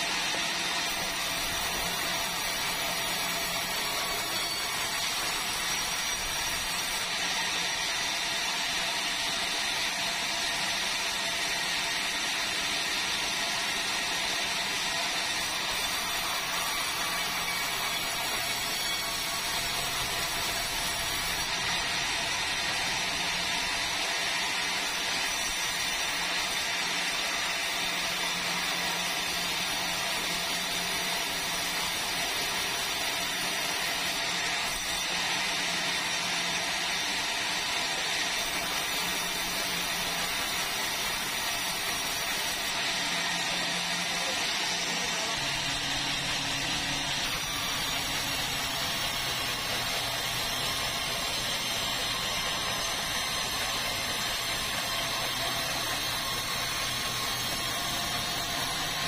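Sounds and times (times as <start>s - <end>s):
sawmill saw cutting timber: 0.0s - 59.0s.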